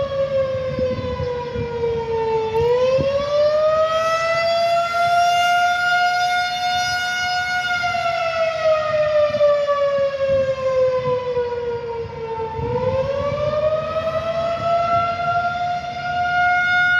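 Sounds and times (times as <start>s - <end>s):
tornado warning siren wailing: 0.0s - 16.9s.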